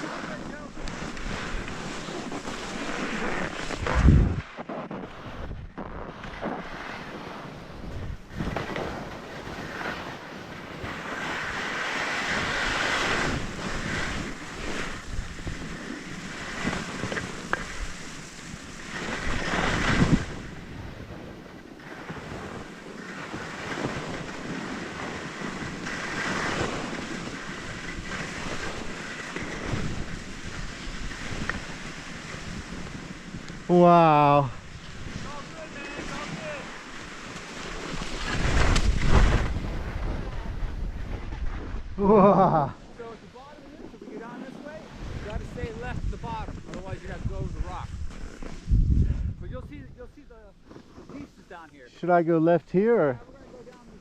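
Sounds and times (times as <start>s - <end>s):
wind on microphone: 0.0s - 42.2s, 43.6s - 51.3s
skis scraping over snow: 0.0s - 54.0s.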